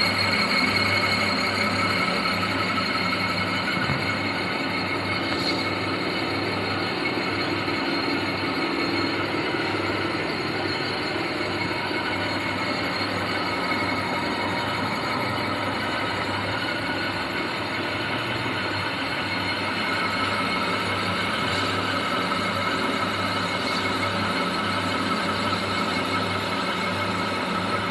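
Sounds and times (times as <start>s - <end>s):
high whine: 0.0s - 25.4s
machine mechanical drone: 0.0s - 27.9s.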